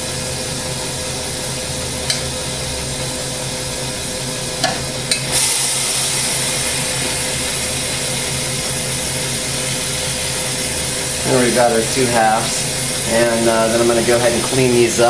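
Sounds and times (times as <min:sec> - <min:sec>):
glassworking torch hissing: 0:00.0 - 0:15.0.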